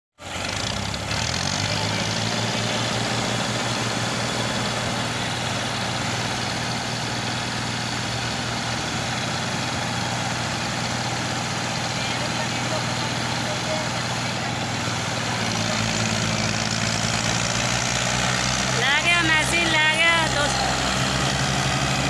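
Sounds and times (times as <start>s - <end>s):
tractor diesel engines running: 0.2s - 22.0s.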